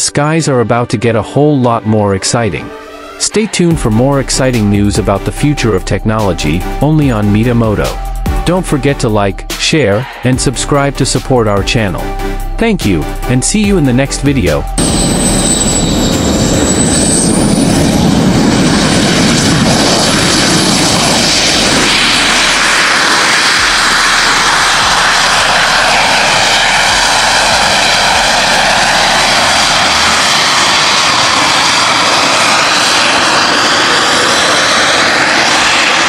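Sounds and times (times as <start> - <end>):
jet turbines roaring with whine: 0.0 - 7.9, 14.6 - 36.0.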